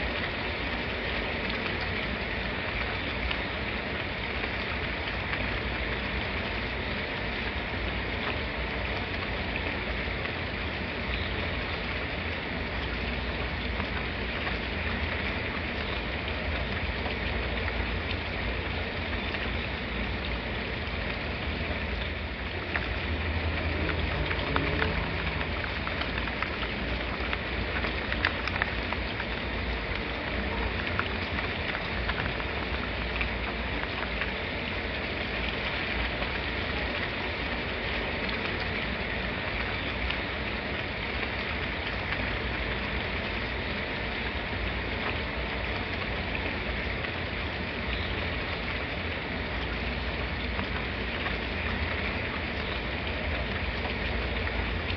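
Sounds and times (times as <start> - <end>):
constant low rumble: 0.0 - 54.9
rain falling: 0.0 - 54.9
sharp raindrop ticks: 0.0 - 54.9.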